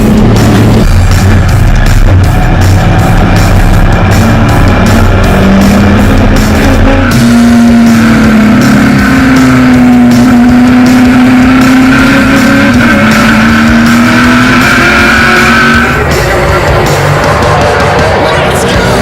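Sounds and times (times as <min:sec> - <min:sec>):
race cars at speed: 0:00.0 - 0:19.0
rock music: 0:00.0 - 0:19.0.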